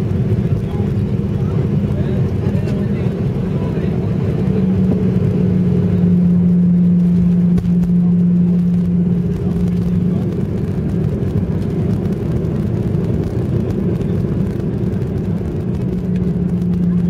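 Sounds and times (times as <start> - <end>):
airliner engines and wheels rumbling: 0.0 - 17.0
steady hum: 0.0 - 17.0.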